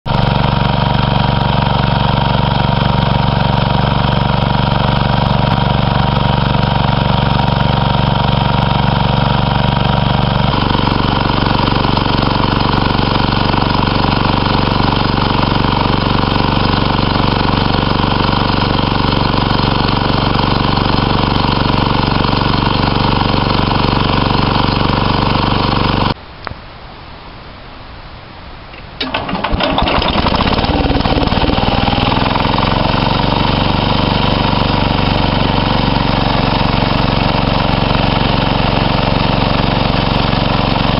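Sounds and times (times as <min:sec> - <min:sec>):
garden tractor engine running: 0:00.1 - 0:26.2, 0:28.8 - 0:40.9.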